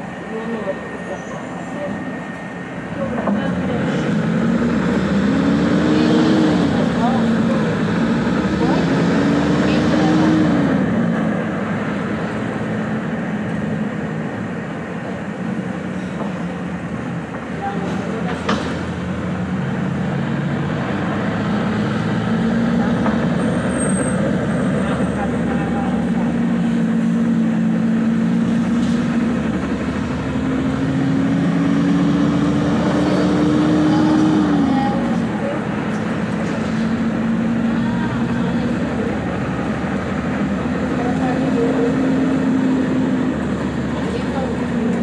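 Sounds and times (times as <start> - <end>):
road and traffic noise: 0.0 - 45.0
vehicle engine running: 0.0 - 45.0.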